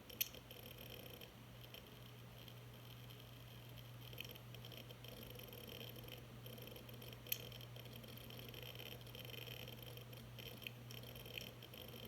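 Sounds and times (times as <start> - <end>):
hard drive clicking: 0.0 - 12.0
steady low hum: 0.0 - 12.0.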